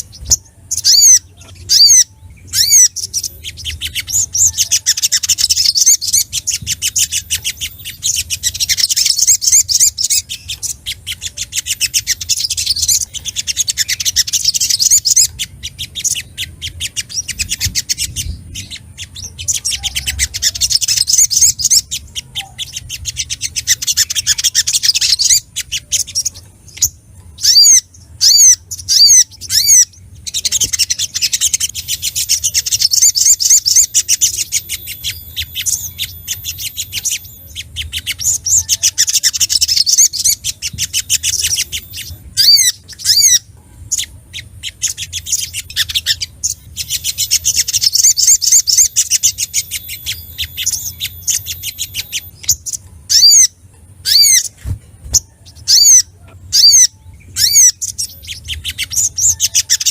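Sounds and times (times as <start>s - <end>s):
bird chattering trills: 0.0s - 59.9s
bird sharp sweeping calls: 0.0s - 59.9s
faint low hum: 0.0s - 59.9s.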